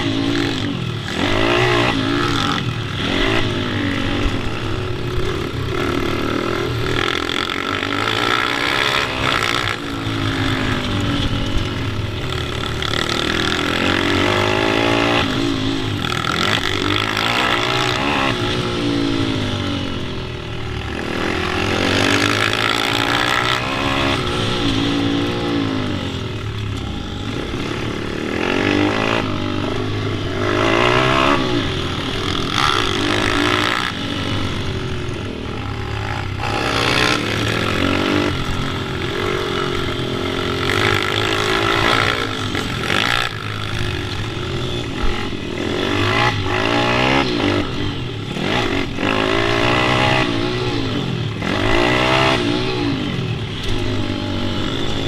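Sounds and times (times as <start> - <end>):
small motorbike engine revving: 0.0 - 55.0.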